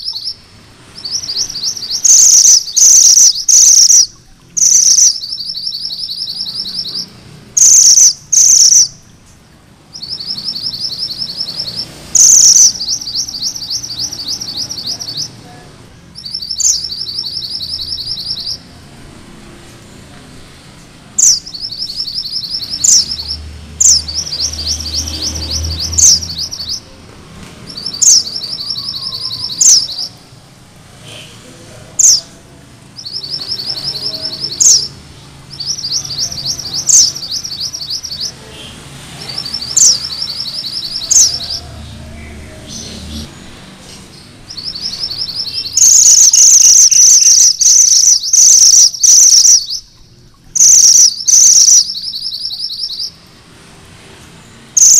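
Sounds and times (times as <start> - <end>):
bird singing trills: 0.0 - 19.0, 21.2 - 27.0, 27.7 - 30.3, 32.0 - 32.4, 33.0 - 53.3, 54.6 - 54.9.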